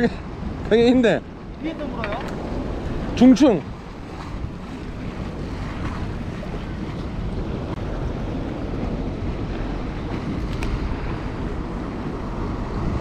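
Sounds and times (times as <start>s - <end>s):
sea waves washing: 0.0s - 13.0s
wind buffeting microphone: 0.0s - 13.0s.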